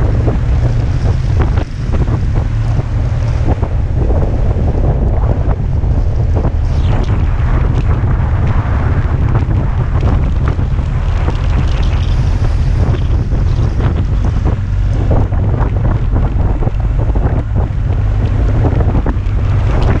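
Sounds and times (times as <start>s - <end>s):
wind noise on microphone: 0.0s - 20.0s.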